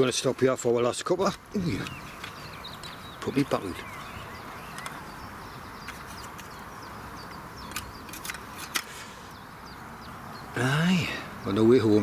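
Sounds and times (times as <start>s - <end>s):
steady outdoor hiss: 0.0s - 12.0s
faint bird chirps: 1.5s - 12.0s.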